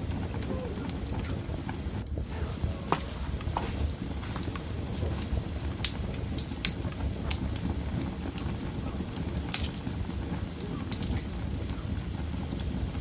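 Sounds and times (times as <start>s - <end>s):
flames rushing: 0.0s - 13.0s
logs crackling and popping: 0.0s - 13.0s.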